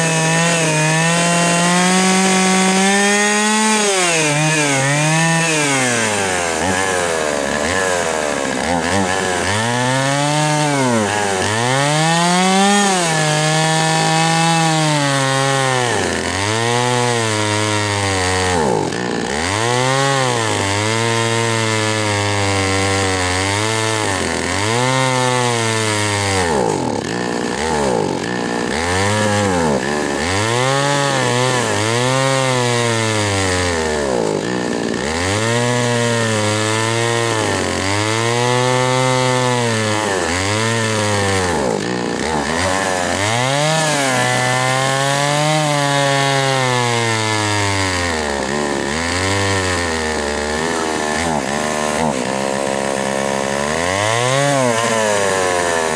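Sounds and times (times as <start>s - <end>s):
chainsaw cutting a log: 0.0s - 55.9s.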